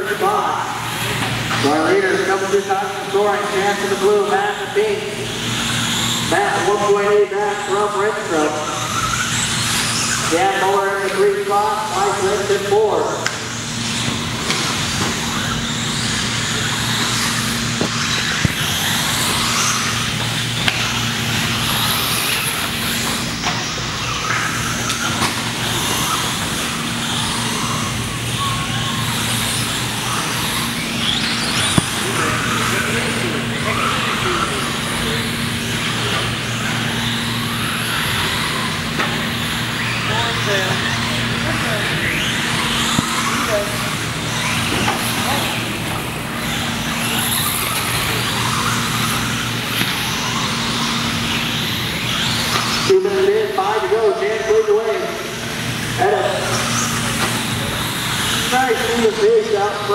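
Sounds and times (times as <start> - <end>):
steady low hum: 0.0 - 59.9
rc truck motors whirring: 0.2 - 59.9.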